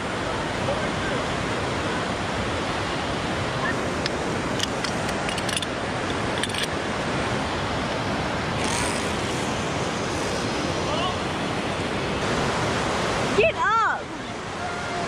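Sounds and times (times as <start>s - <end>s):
whitewater rapids rushing: 0.0s - 15.0s.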